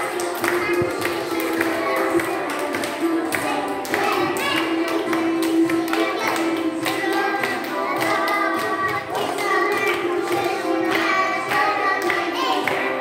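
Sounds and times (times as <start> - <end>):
children's song with singing: 0.0 - 13.0
small children clapping: 0.0 - 13.0.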